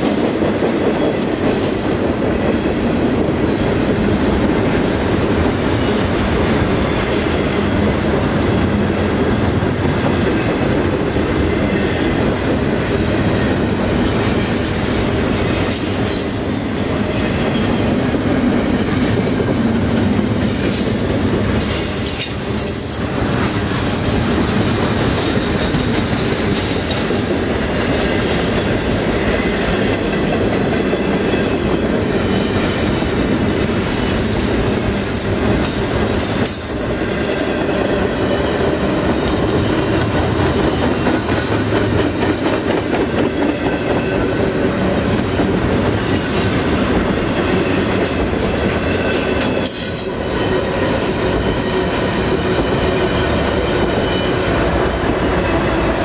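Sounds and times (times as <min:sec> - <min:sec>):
clickety-clack over rail joints: 0:00.0 - 0:56.0
steel wheels rumbling on rail: 0:00.0 - 0:56.0.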